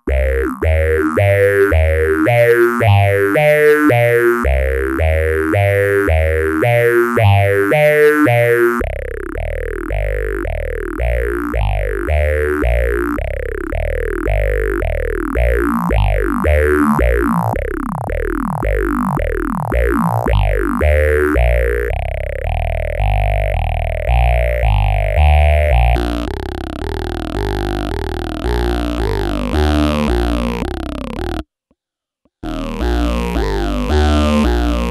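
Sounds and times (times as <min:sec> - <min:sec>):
synthesizer notes with phaser sweeps: 0:00.0 - 0:31.4, 0:32.4 - 0:34.9.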